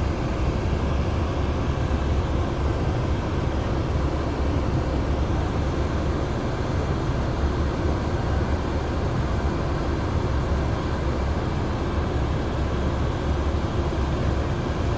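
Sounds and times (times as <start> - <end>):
surrounding traffic: 0.0 - 14.9.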